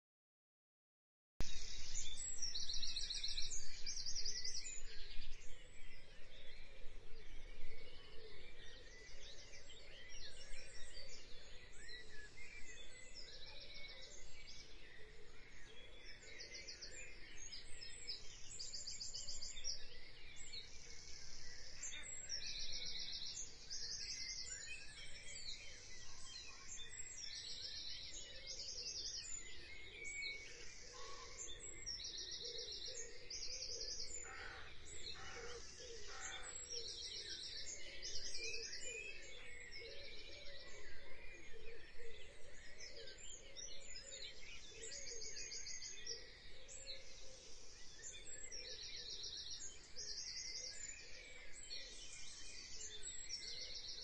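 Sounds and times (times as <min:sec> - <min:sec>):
birds chirping and trilling: 0:01.4 - 0:54.0.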